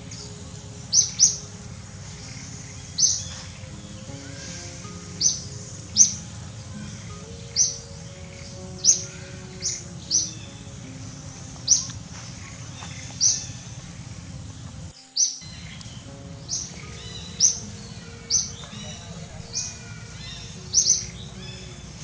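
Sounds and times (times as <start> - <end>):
bird chirping: 0.0 - 22.0
soft background music: 0.0 - 22.0.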